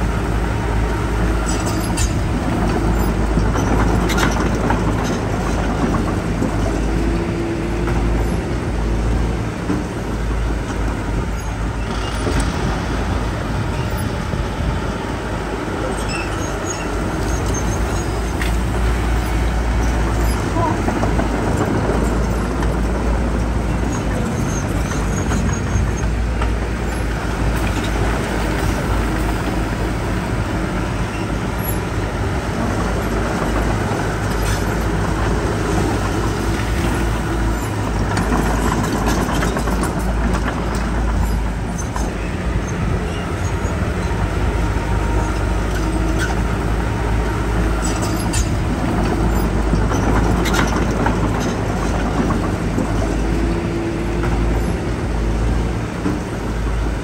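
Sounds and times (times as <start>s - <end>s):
heavy diesel machinery running: 0.0s - 57.0s.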